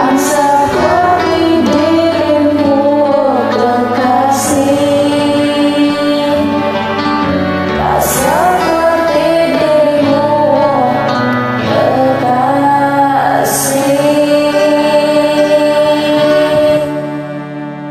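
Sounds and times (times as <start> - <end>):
woman singing: 0.0 - 7.0, 7.7 - 17.3
sustained keyboard chords: 0.0 - 17.9.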